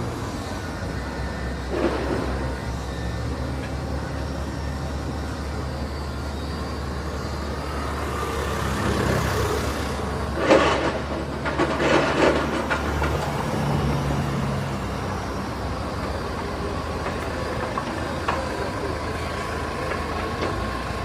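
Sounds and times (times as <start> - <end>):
large vehicle engine rumble: 0.0 - 21.0.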